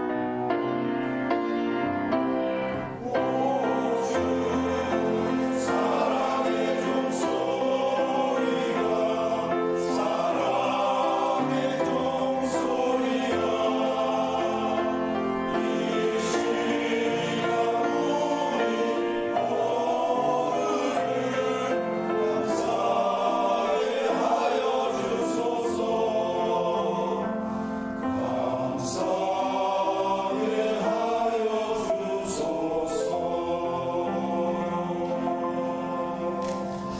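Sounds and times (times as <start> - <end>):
choir singing a hymn: 0.0 - 36.9.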